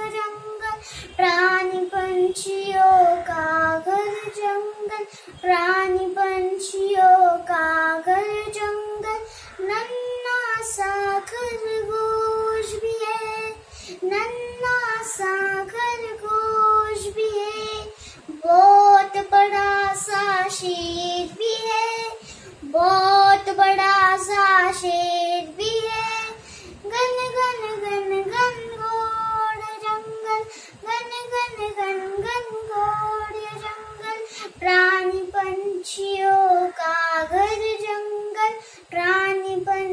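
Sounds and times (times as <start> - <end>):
girl singing: 0.0 - 39.9.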